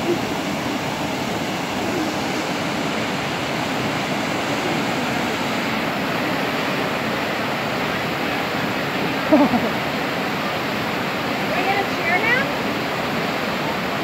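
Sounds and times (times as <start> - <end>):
whitewater rushing: 0.0 - 14.0.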